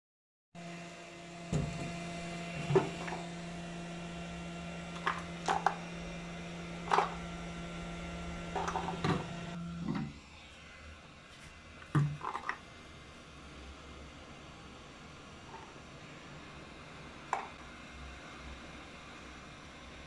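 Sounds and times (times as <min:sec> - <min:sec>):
steady electrical hum: 0:00.9 - 0:20.0.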